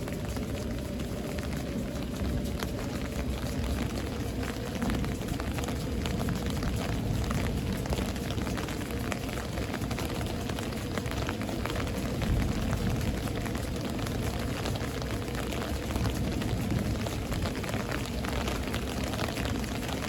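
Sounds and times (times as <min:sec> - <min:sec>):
deep low rumble: 0:00.0 - 0:20.0
rain hiss: 0:00.0 - 0:20.0.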